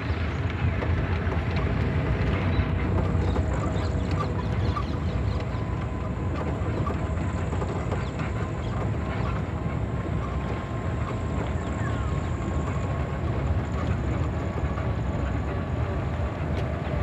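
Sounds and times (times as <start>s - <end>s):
vehicle rumbling on dirt track: 0.0s - 17.0s.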